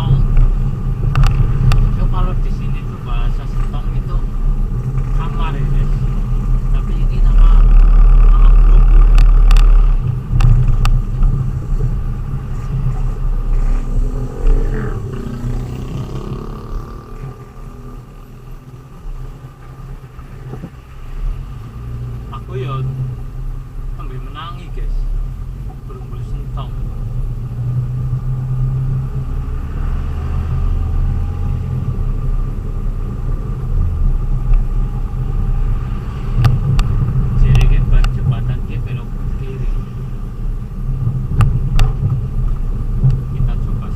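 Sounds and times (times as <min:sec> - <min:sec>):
vehicle engine and road rumble: 0:00.0 - 0:43.9.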